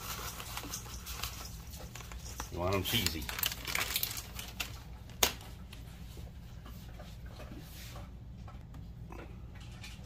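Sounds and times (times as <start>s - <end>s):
rustling handling noises: 0.0s - 8.2s
low steady hum: 0.0s - 10.0s.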